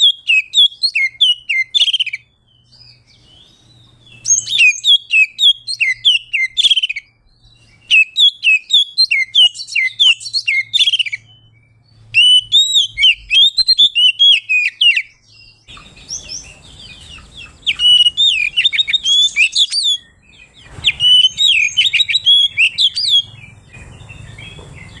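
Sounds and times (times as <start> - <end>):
songbird chirping and whistling: 0.0 - 25.0.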